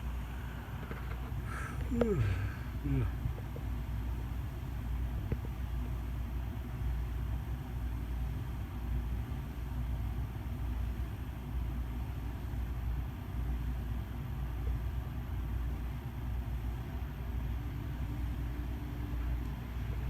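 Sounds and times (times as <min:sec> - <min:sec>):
ceiling fan humming: 0:00.0 - 0:20.0.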